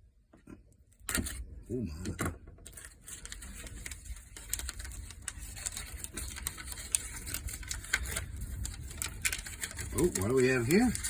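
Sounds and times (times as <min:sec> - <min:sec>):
packaging clicks and paper crackles: 0:02.0 - 0:11.0.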